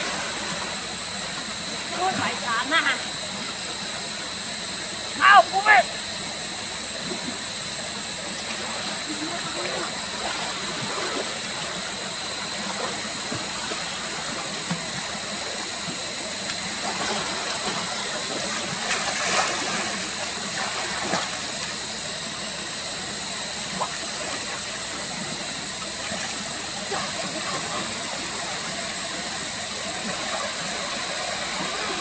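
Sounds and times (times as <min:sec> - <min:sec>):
thin high whine: 0:00.0 - 0:32.0.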